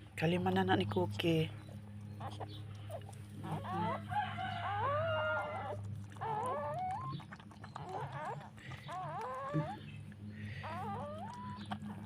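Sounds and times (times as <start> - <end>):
dog whining: 2.2 - 12.0.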